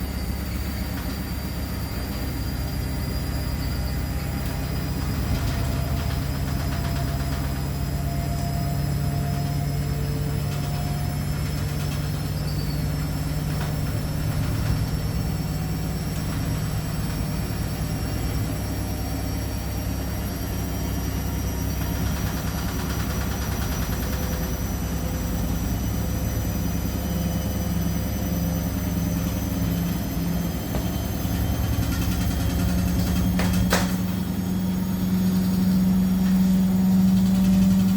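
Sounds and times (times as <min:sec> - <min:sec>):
washing machine rumbling: 0:00.0 - 0:37.9.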